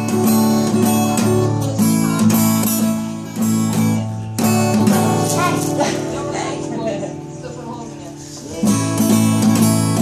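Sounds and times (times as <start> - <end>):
acoustic guitar strummed in chords: 0.0 - 10.0.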